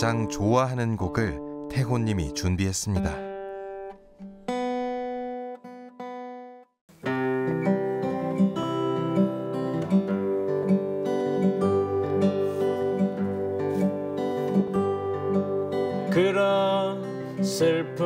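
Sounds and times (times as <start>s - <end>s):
fingerstyle acoustic guitar: 3.2s - 18.0s.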